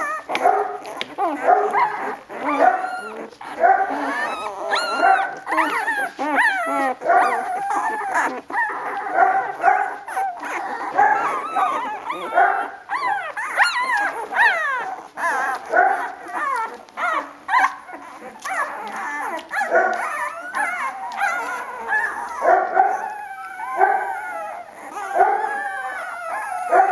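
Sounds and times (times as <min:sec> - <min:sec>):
puppies squeaking and whimpering: 0:00.0 - 0:26.9.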